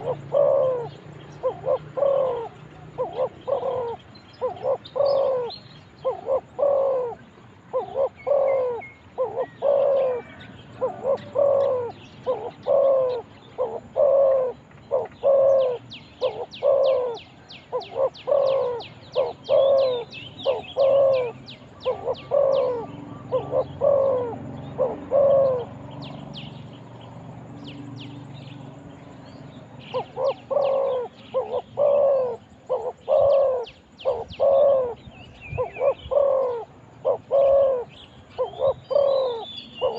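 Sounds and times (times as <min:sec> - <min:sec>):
dove cooing: 0:00.0 - 0:26.9, 0:29.8 - 0:39.9
small bird chirping: 0:00.0 - 0:39.9.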